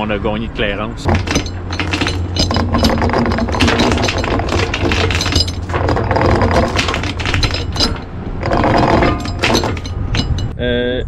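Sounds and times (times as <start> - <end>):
anchor chain clattering: 1.1 - 10.6.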